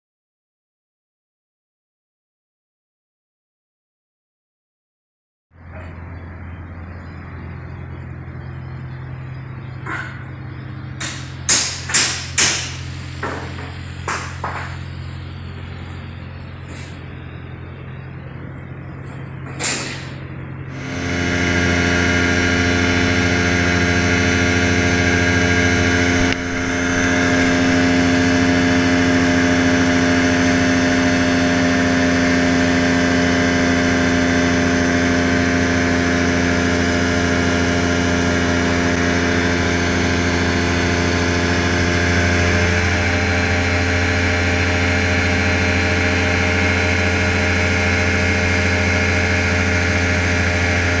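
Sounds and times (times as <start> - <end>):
light aircraft engine: 5.6 - 51.0.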